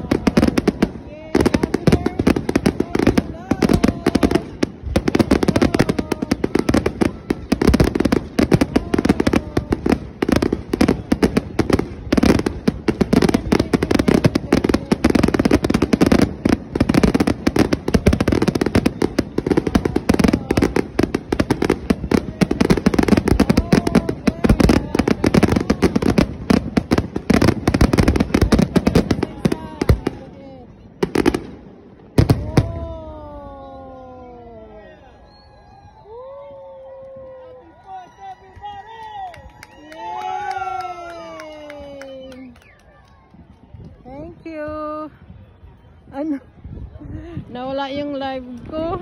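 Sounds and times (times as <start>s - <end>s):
fireworks bursts and crackle: 0.0s - 34.4s, 35.2s - 49.0s.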